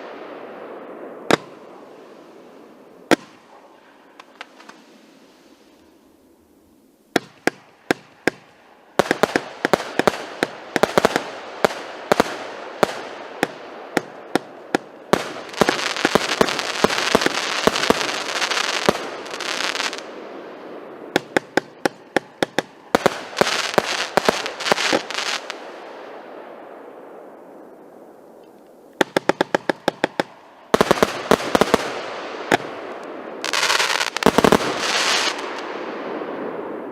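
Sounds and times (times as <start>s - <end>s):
firework bangs and crackling: 0.0s - 5.8s, 7.1s - 27.7s, 28.9s - 36.9s.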